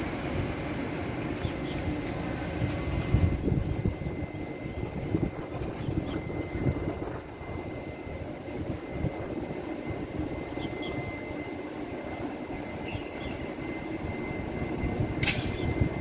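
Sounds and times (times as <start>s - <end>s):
faint high whine: 0.0s - 16.0s
train rumbling: 0.0s - 16.0s.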